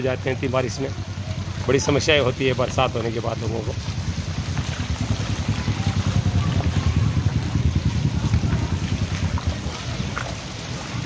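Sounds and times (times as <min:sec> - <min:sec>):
floodwater running: 0:00.0 - 0:11.0
heavy rain: 0:00.0 - 0:11.0
wind rumbling on microphone: 0:00.0 - 0:11.0.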